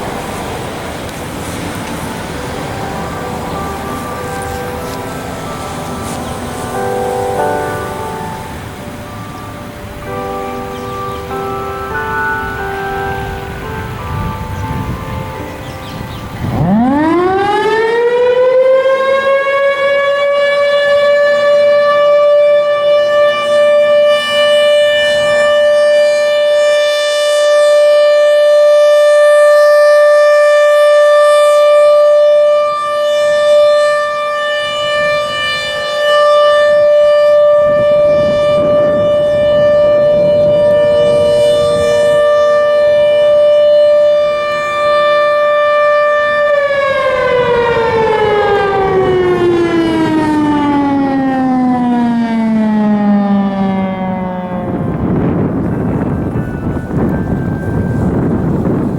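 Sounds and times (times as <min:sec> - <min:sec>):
warning siren single tone: 0:01.7 - 0:11.3, 0:13.9 - 0:58.9.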